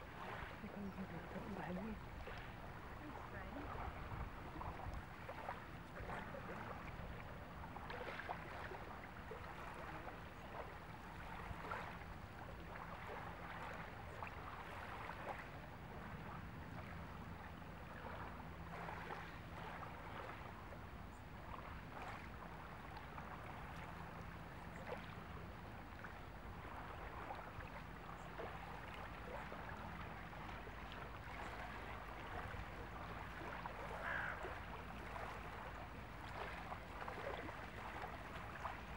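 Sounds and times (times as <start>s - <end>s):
low steady hum: 0.0s - 38.9s
water lapping at the shore: 0.0s - 38.9s.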